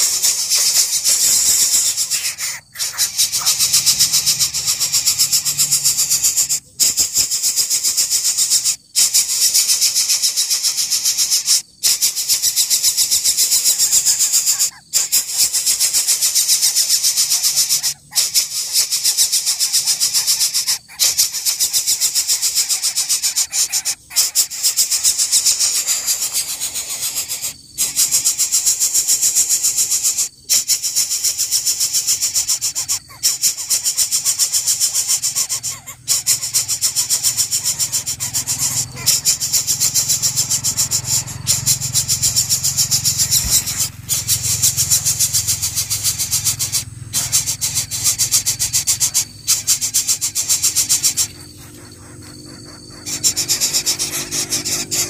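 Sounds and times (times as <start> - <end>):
nestlings rasping begging calls: 0.0 - 55.0.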